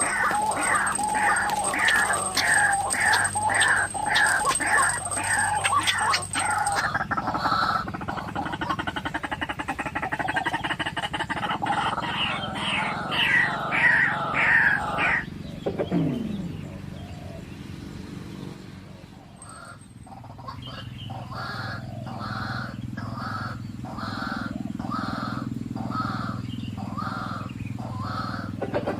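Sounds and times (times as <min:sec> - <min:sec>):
waterhen croaking chatter: 0:00.0 - 0:15.9, 0:19.1 - 0:28.9.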